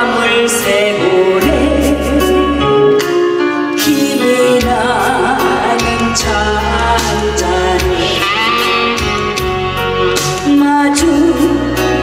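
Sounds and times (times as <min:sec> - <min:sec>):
woman singing into a microphone: 0:00.0 - 0:03.1, 0:03.7 - 0:09.4, 0:10.3 - 0:12.0
amplified backing music with beat: 0:00.0 - 0:12.0.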